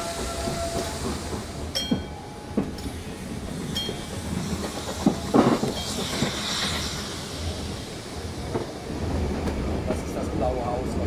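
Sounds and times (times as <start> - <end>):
steam hiss: 0.0 - 1.8, 2.5 - 10.4
train wheels rumbling and clattering: 0.0 - 11.0.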